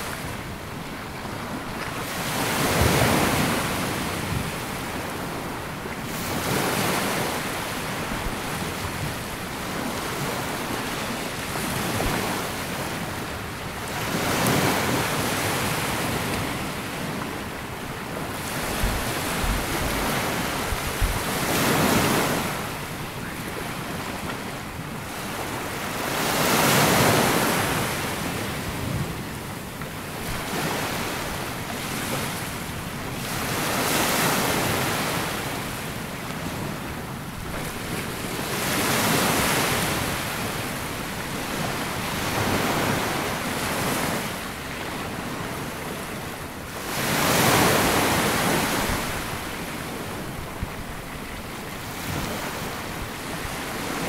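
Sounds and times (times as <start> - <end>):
waves washing up a beach: 0.0 - 54.0.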